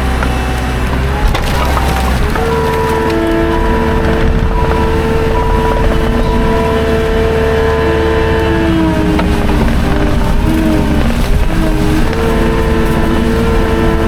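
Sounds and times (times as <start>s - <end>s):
hydraulic whining: 0.0s - 14.0s
skid steer engine: 0.0s - 14.0s.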